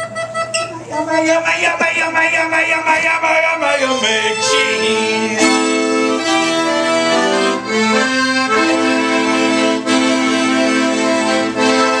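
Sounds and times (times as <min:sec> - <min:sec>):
accordion playing sustained chords: 0:00.0 - 0:12.0.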